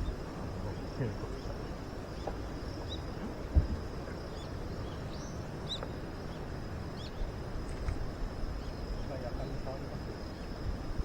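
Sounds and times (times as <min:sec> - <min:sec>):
insect chirps: 0:00.0 - 0:11.0
insects trilling: 0:00.0 - 0:11.0.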